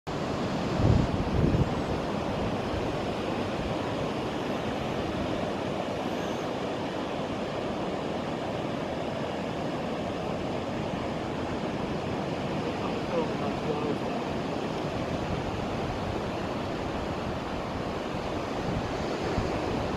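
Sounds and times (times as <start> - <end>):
wind on microphone: 0.1 - 8.7, 10.6 - 19.9
surf breaking on sandy beach: 0.1 - 19.9.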